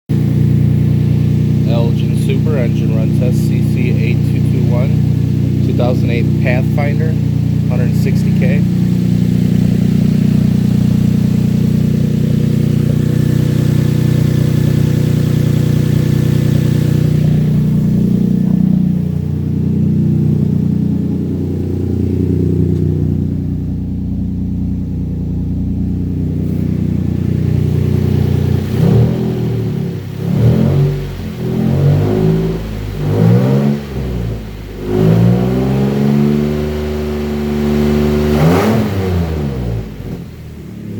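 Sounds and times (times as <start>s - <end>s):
car engine idling and revving: 0.1s - 40.9s.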